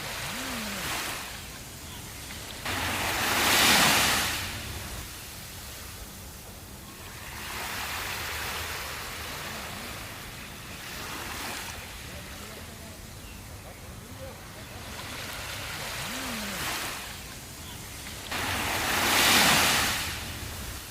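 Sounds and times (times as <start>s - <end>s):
sea waves breaking on beach: 0.0s - 20.9s.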